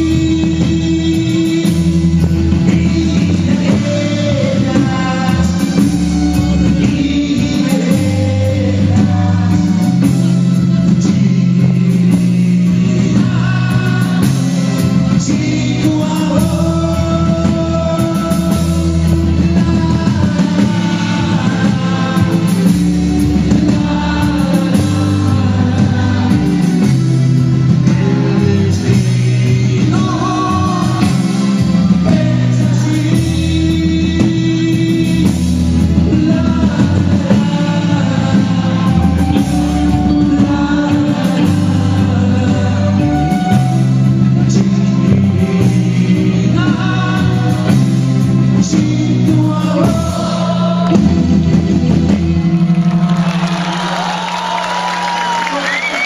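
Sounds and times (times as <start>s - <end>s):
man singing into a microphone: 0.0s - 52.1s, 55.2s - 56.0s
live pop-rock band playing: 0.0s - 56.0s
steady bass notes: 0.0s - 56.0s.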